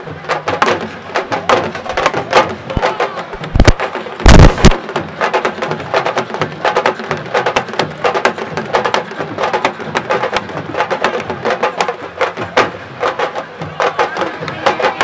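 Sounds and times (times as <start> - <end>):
drums played in sharp strokes: 0.0 - 15.0.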